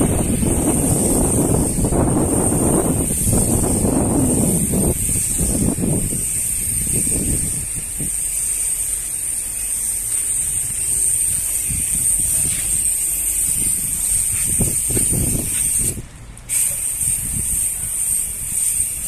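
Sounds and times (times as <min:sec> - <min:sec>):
pressure washer spraying metal: 0:00.0 - 0:19.0.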